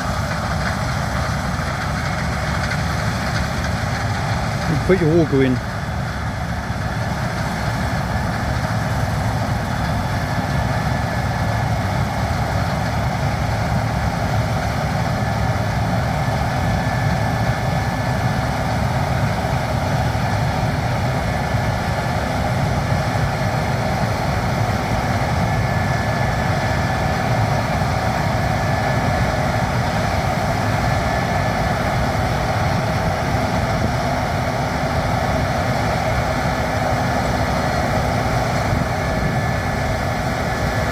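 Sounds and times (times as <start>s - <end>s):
heavy machinery engine humming: 0.0s - 40.9s.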